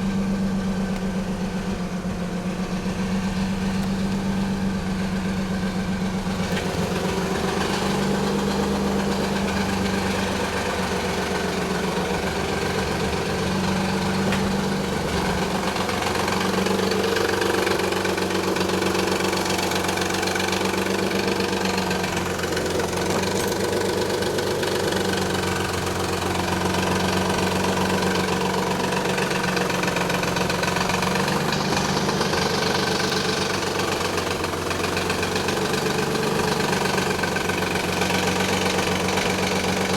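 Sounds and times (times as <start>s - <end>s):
abnormal mechanical engine noise: 0.0s - 39.9s
car engine idling: 0.0s - 39.9s.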